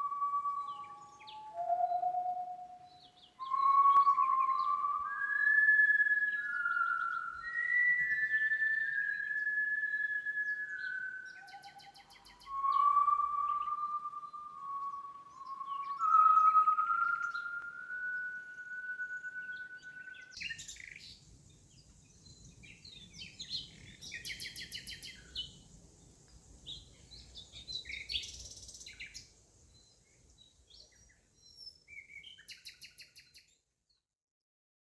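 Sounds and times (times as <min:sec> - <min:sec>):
birds chirping and trilling: 0:00.0 - 0:25.6, 0:26.7 - 0:33.6.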